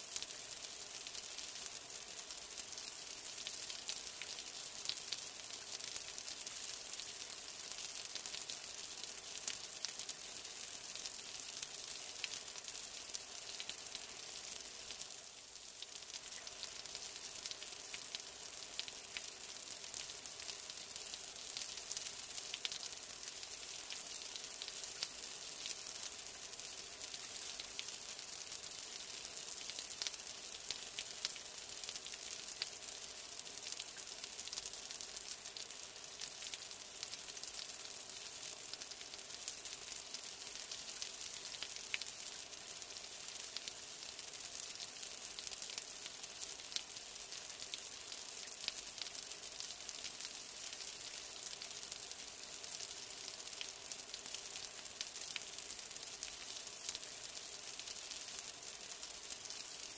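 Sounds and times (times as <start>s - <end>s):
raindrops ticking on surfaces: 0.0s - 59.9s
steady rain hiss: 0.0s - 59.9s.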